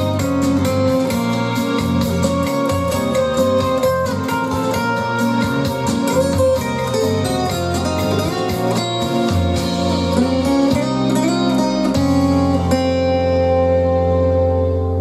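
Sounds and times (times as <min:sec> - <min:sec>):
guitar music through speakers: 0:00.0 - 0:15.0.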